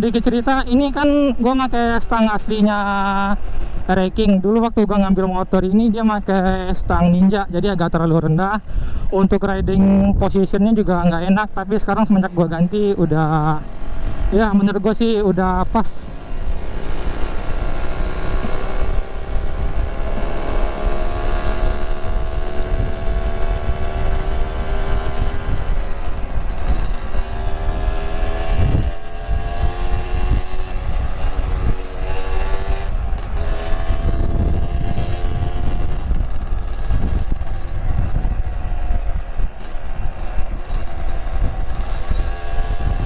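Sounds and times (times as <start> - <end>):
motorcycle engine accelerating: 8.0 - 43.0.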